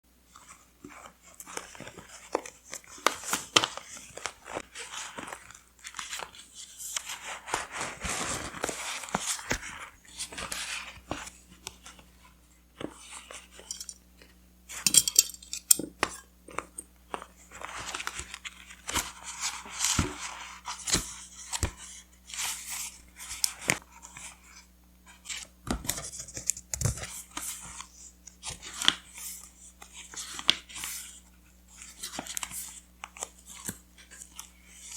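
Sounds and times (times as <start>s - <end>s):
paper rustling and crinkling: 0.4s - 13.7s, 16.5s - 34.9s.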